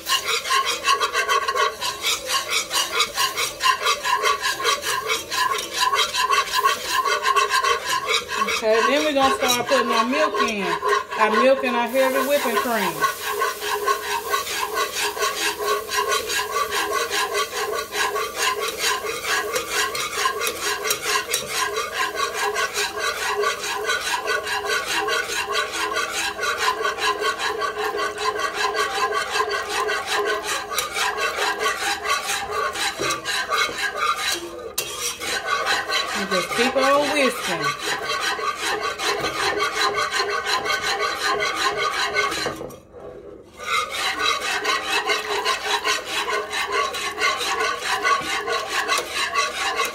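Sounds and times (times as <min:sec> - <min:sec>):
whisk scraping a pot: 0:00.0 - 0:49.9.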